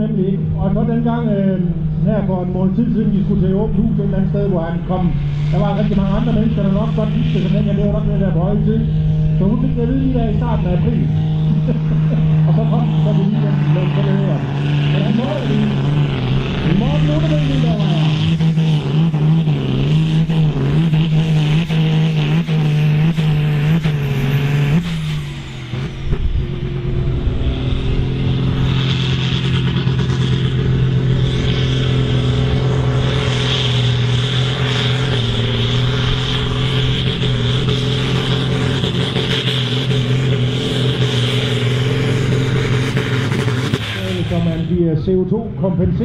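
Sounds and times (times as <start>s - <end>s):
tractor diesel engines under load: 0.0s - 46.0s.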